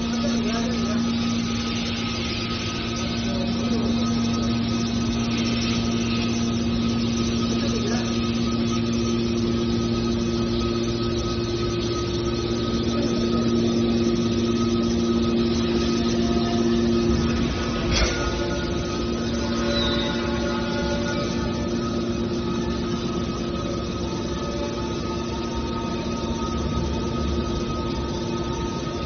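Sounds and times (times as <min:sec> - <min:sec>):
hydraulic power unit humming: 0:00.0 - 0:29.0.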